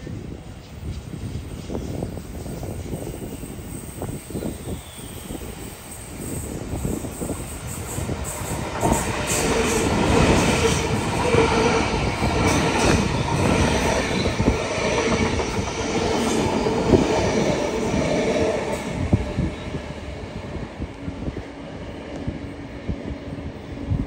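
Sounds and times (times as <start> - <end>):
train wheels rumbling on rails: 0.0 - 24.0
train whining tone: 2.6 - 24.0.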